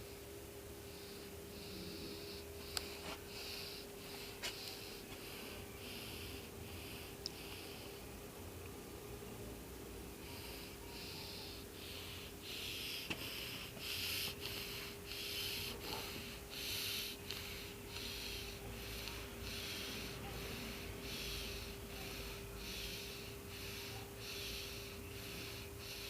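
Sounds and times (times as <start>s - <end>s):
cat breathing: 0.8s - 8.2s, 10.1s - 26.0s.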